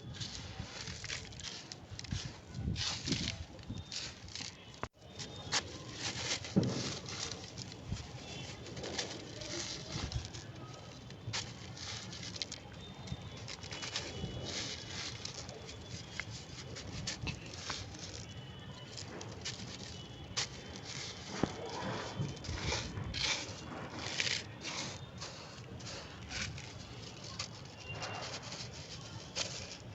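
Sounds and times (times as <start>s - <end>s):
brittle material crunching: 0.0s - 29.9s.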